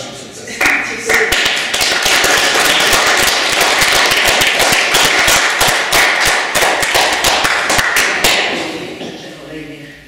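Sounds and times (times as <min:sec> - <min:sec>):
group applauding: 0:00.5 - 0:08.8.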